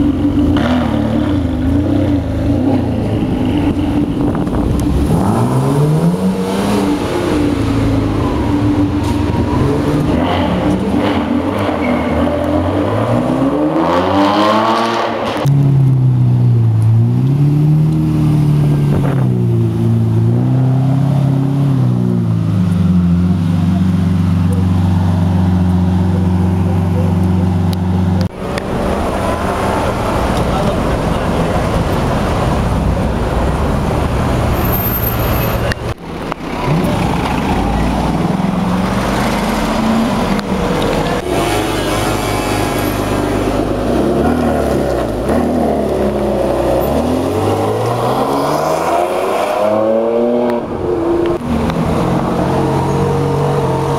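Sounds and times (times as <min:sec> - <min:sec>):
sports car engines running hard: 0:00.0 - 0:53.9.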